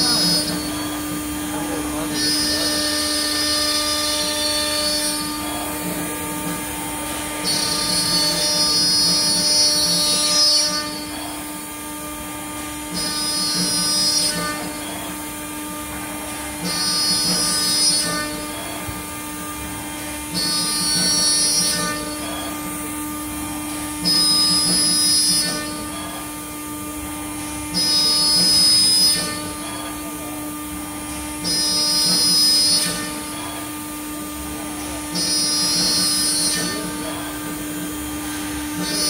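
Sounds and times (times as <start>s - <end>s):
router spindle whining: 0.0s - 39.0s.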